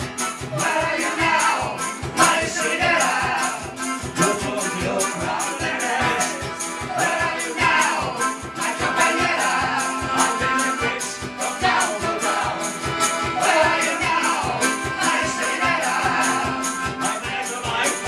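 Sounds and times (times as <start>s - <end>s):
accordion: 0.0s - 18.0s
acoustic guitar strummed hard: 0.0s - 18.0s
man singing: 0.6s - 12.8s, 13.4s - 18.0s.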